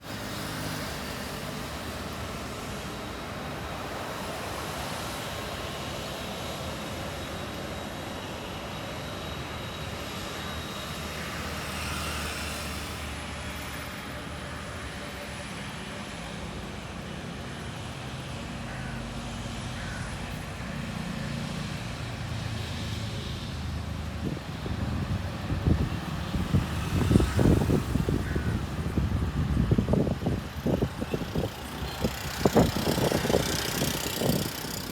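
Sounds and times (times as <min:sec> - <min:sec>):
jet engine high whine: 0:00.0 - 0:34.9
jet engines rushing hum: 0:00.0 - 0:34.9.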